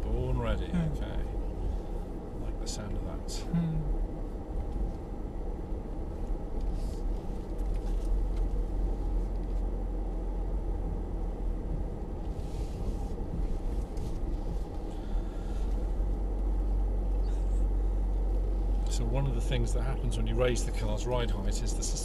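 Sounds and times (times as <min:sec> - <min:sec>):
low rumble of engine and tyres: 0:00.0 - 0:22.0.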